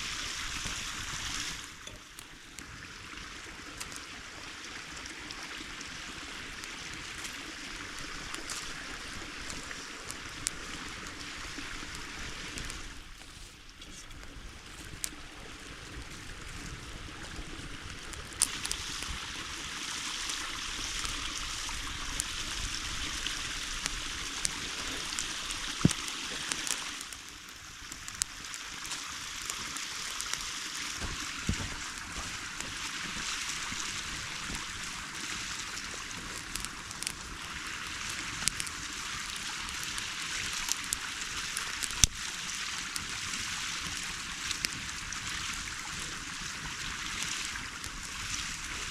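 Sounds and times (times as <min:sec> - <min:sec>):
creek flowing: 0:00.0 - 0:48.9.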